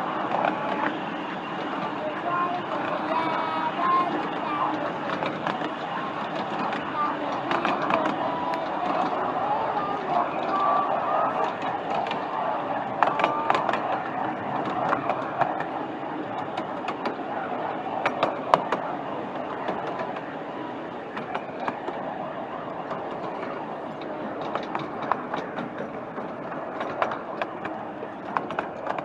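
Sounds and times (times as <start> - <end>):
train wheels rumbling on rail: 0.0 - 29.0
sharp clicks and knocks: 3.8 - 20.4, 21.0 - 29.0.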